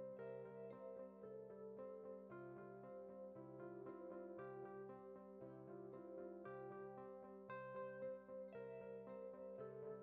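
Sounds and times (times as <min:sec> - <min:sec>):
quiet instrumental music: 0:00.0 - 0:10.0.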